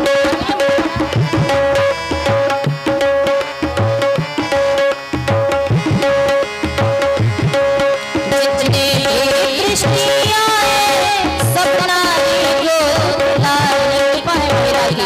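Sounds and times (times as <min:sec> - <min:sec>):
tabla playing a steady rhythm: 0:00.0 - 0:15.0.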